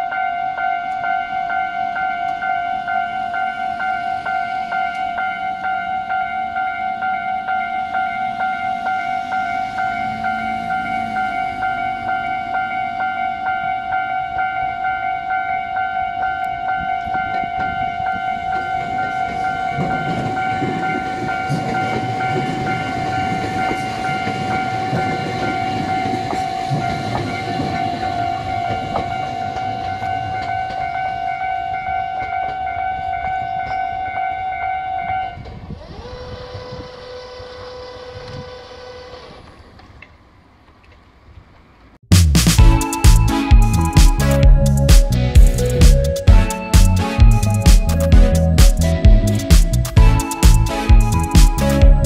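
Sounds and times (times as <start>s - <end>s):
level crossing warning bell: 0.0s - 35.5s, 42.6s - 52.0s
train rumbling over rails: 0.0s - 52.0s.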